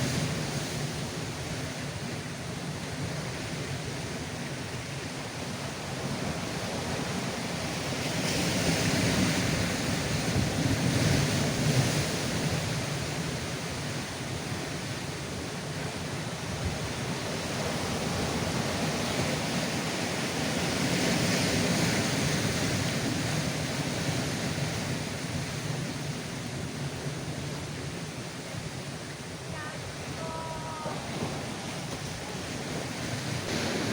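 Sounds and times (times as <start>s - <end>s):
sea surf washing over rocks: 0.0s - 33.9s.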